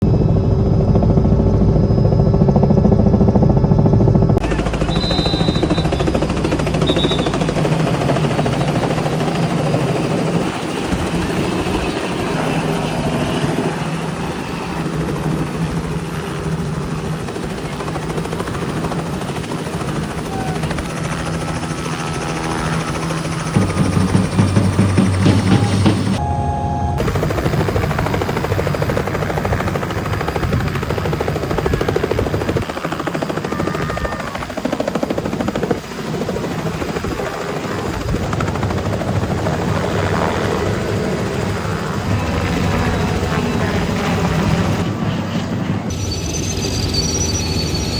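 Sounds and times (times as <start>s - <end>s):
helicopter rotor and turbine: 0.0s - 47.9s.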